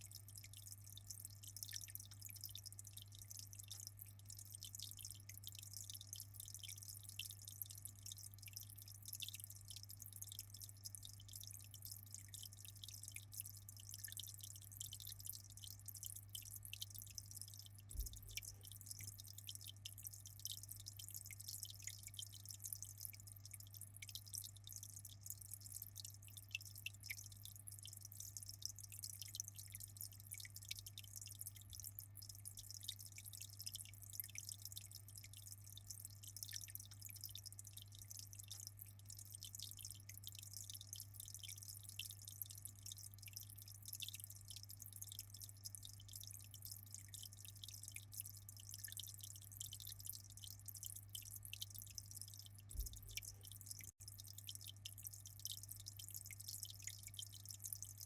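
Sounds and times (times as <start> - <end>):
aquarium water trickling: 0.0 - 58.0.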